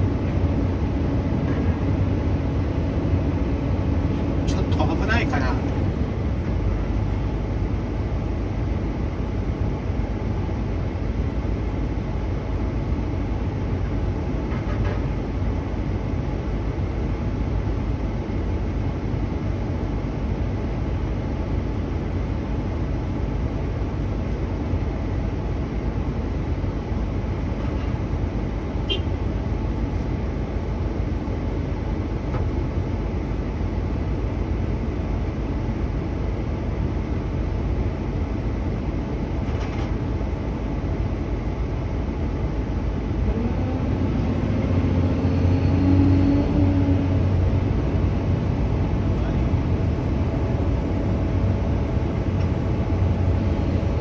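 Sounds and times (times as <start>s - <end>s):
truck engine rumbling: 0.0s - 18.0s, 23.9s - 54.0s.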